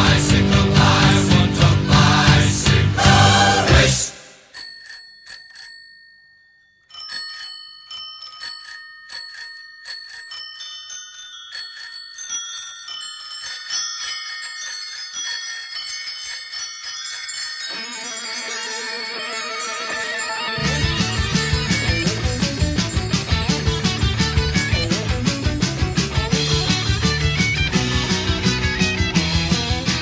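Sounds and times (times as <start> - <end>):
bells ringing: 4.4 - 30.0.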